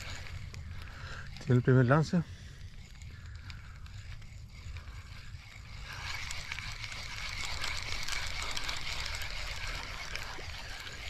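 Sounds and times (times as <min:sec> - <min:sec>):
fishing reel whirring and clicking: 0:00.0 - 0:11.0.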